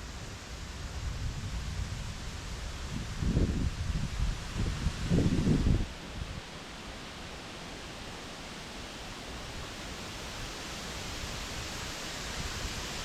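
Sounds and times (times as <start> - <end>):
wind rushing through trees: 0.0 - 13.0.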